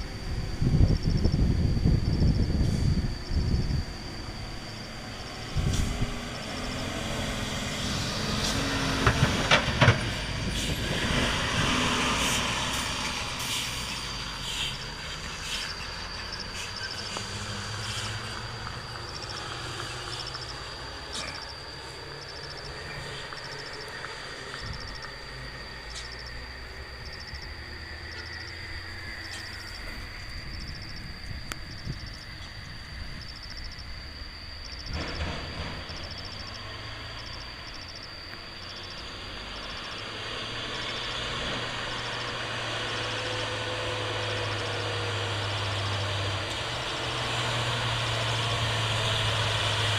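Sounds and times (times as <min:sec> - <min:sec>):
brakes hissing and squealing: 0:00.0 - 0:49.9
truck engine rumble: 0:00.0 - 0:49.9.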